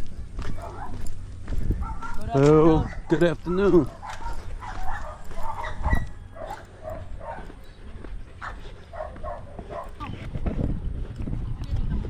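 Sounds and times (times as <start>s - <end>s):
dogs barking and yipping: 0.3s - 10.2s.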